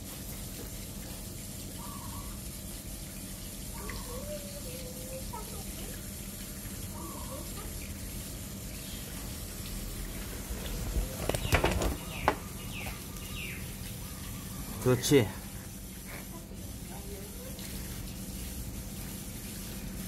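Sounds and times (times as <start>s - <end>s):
hose water splashing on dog: 0.0s - 20.0s.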